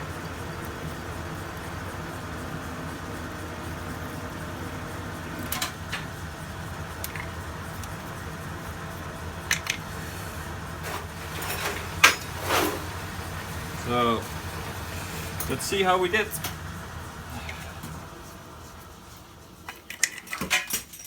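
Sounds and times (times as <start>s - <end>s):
metal lathe running: 0.0s - 20.3s.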